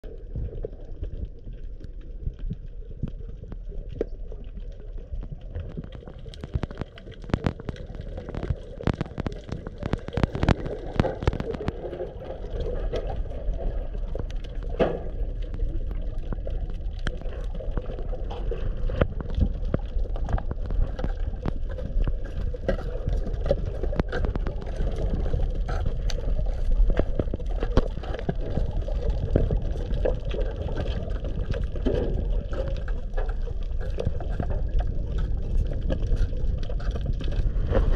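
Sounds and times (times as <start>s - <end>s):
underwater clicks and crackles: 0.0s - 37.9s
underwater rumble of moving water: 0.0s - 37.9s.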